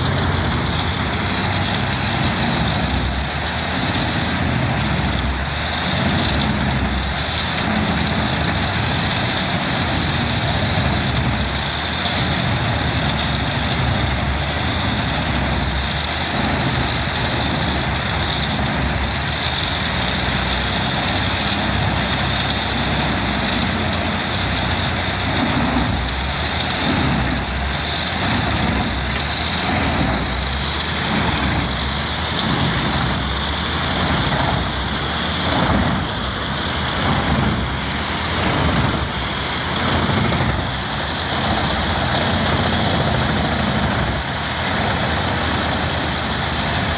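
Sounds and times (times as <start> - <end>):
steady high whine: 0.0 - 46.9
wood chipper chipping logs: 0.0 - 46.9.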